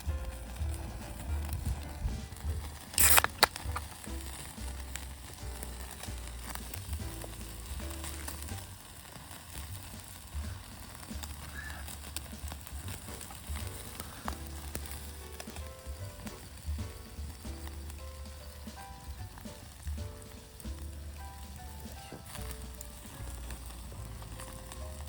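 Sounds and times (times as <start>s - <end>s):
campfire crackling and sizzling: 0.0s - 25.0s.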